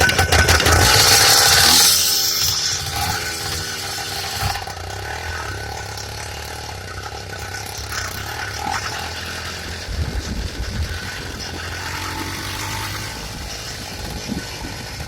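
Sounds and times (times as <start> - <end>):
two-stroke engine droning: 0.0 - 15.0.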